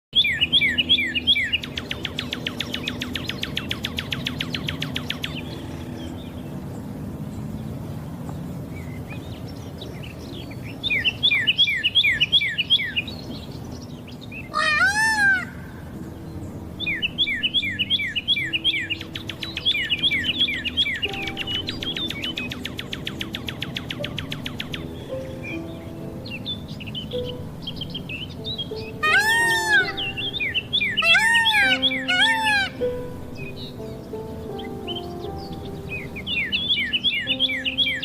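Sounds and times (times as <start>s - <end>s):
bird trill: 0.2s - 6.6s, 10.0s - 38.0s
birds singing: 0.2s - 38.0s.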